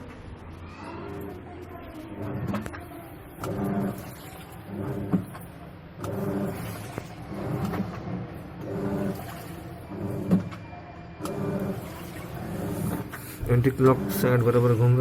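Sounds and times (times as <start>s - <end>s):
washing machine agitating: 1.0s - 15.0s.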